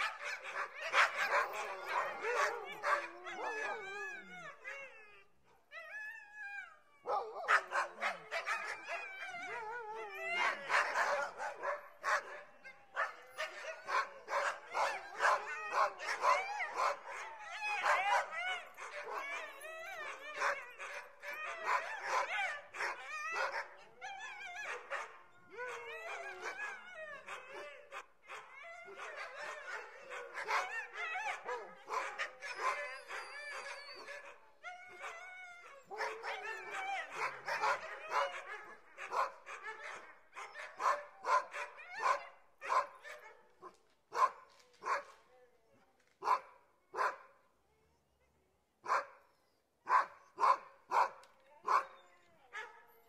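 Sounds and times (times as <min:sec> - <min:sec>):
dogs yipping whining and barking: 0:00.0 - 0:45.4, 0:48.9 - 0:53.0.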